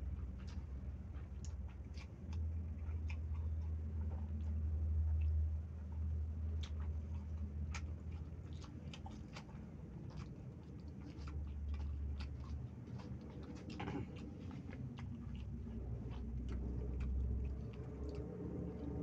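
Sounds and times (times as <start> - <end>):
low steady hum: 0.0 - 19.0
person chewing with mouth clicks: 0.2 - 19.0.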